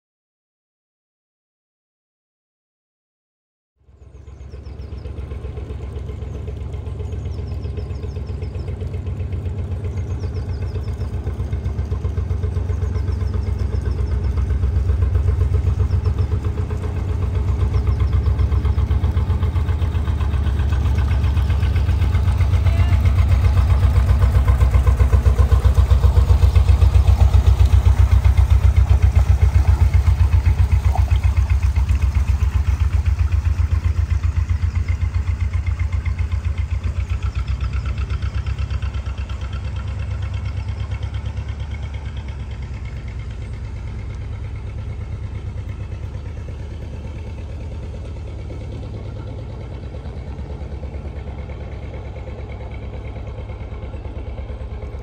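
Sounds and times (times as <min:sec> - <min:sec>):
slow-running diesel boat engine: 0:03.8 - 0:55.0.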